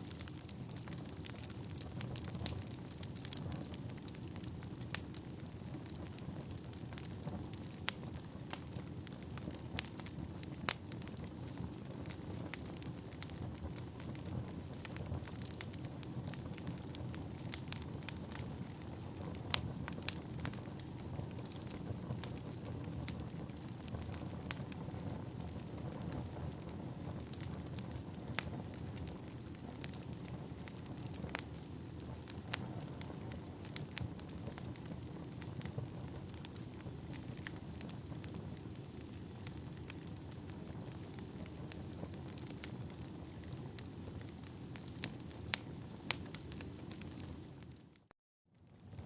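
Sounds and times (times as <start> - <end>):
fire crackling and popping: 0.0 - 49.0
low rumble of fire: 0.0 - 49.0.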